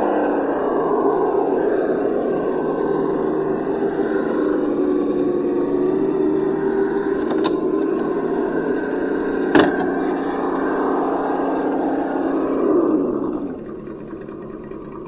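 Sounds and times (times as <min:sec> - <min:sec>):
rc truck motor whining: 0:00.0 - 0:15.0.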